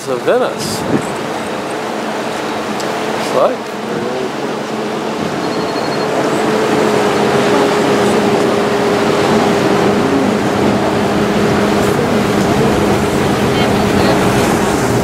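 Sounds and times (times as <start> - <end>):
boat engine humming: 0.0 - 15.0
rushing water: 0.0 - 15.0
wind: 0.0 - 15.0.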